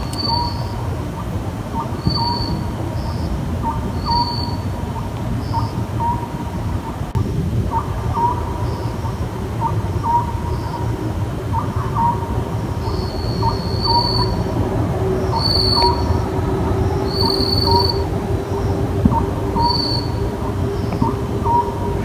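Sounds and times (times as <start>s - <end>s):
hum: 0.0s - 22.0s
steady low rumble: 0.0s - 22.0s.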